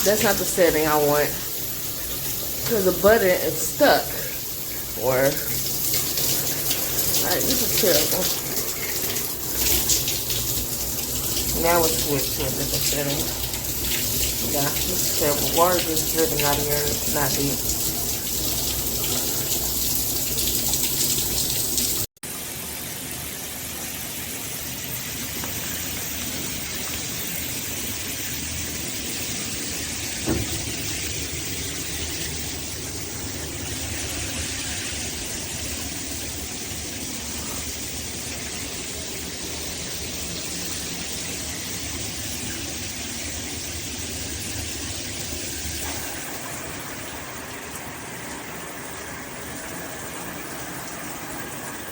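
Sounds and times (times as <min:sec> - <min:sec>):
shower water spraying: 0:00.0 - 0:22.1, 0:25.2 - 0:51.9.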